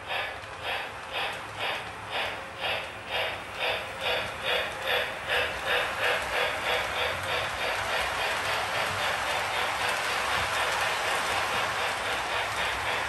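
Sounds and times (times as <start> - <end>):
toy locomotive steam chuffing: 0.0 - 13.0.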